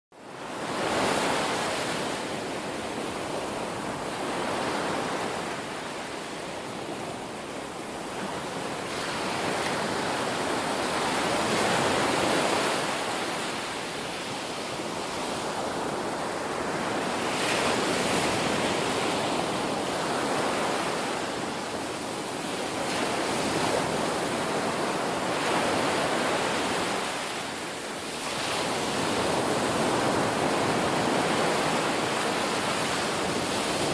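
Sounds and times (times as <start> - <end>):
waves washing onto beach: 0.2 - 33.9.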